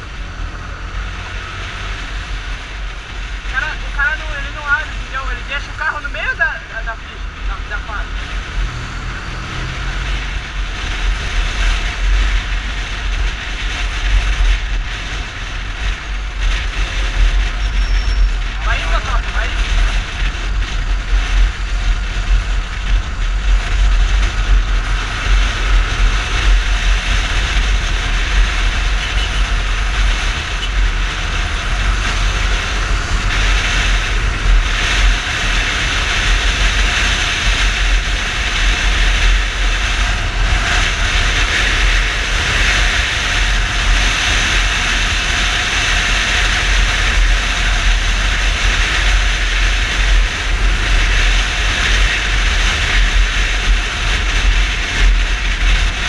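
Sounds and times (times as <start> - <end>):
motorcycle engine: 0.0 - 56.0
wind rushing over microphone: 0.0 - 56.0.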